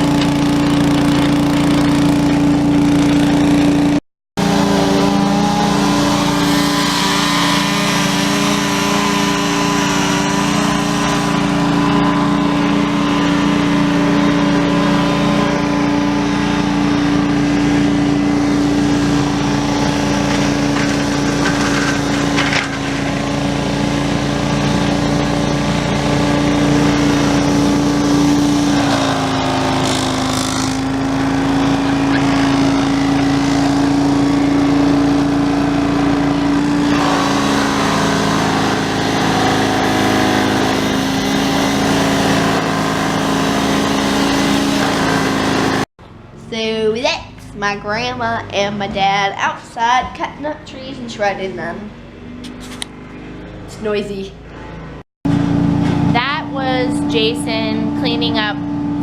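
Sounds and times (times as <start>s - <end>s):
small gasoline engine running: 0.0s - 46.3s, 51.9s - 59.0s.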